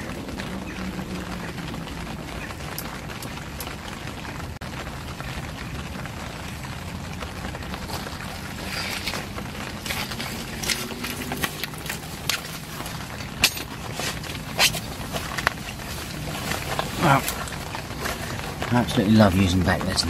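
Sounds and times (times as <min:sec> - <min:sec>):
light rain pattering: 0:00.0 - 0:20.0
sharp taps of raindrops: 0:00.0 - 0:20.0
steady low rumble: 0:00.0 - 0:20.0.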